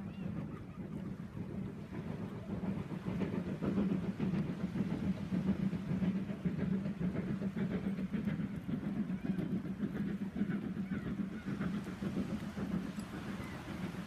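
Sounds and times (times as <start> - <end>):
boat engine humming: 0.0 - 14.0
continuous rushing noise: 0.0 - 14.0.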